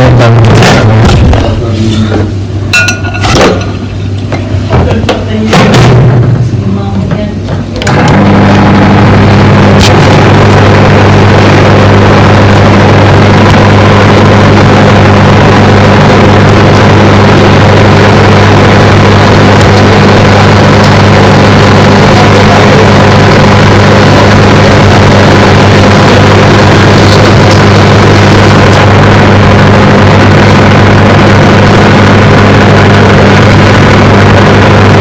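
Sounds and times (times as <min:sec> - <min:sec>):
microwave oven humming: 0:00.0 - 0:35.0.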